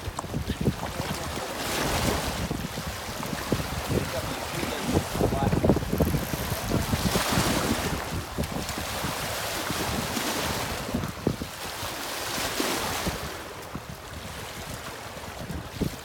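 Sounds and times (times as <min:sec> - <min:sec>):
river water washing against rocks: 0:00.0 - 0:16.0
wind buffeting microphone: 0:00.0 - 0:16.0.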